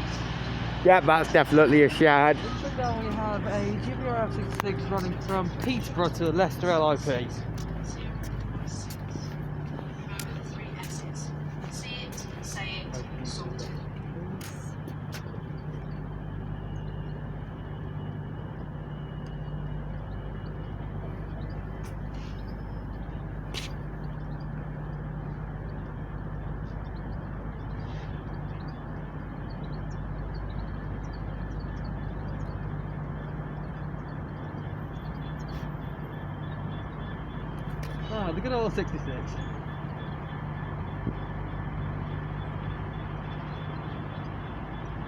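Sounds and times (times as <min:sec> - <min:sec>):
diesel railway engine humming: 0:00.0 - 0:45.0.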